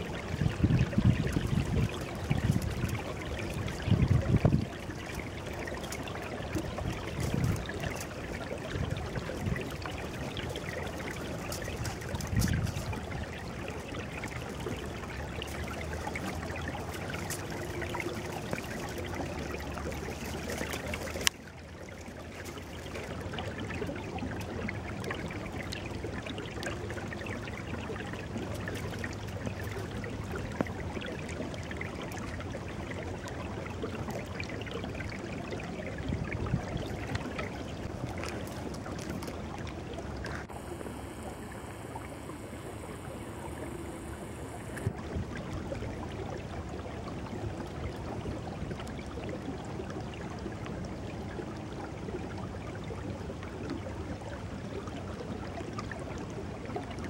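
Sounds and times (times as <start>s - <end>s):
river trickling: 0.0s - 57.0s.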